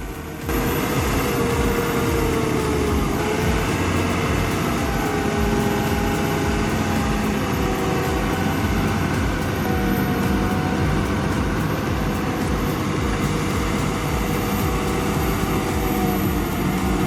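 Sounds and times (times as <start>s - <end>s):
faint steady tones: 0.0s - 17.0s
tractor engine running: 0.0s - 17.0s.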